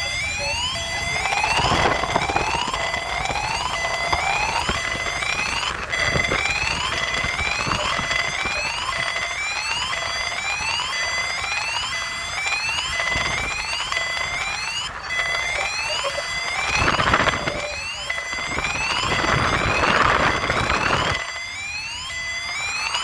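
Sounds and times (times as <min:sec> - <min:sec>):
electronic siren wailing: 0:00.0 - 0:23.0.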